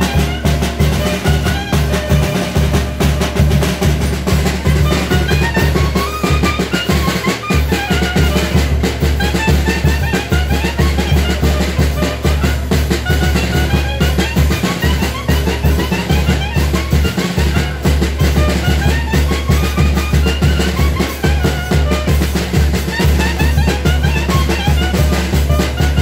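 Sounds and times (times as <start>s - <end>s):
bass drum beat: 0.0s - 26.0s
festival band music: 0.0s - 26.0s.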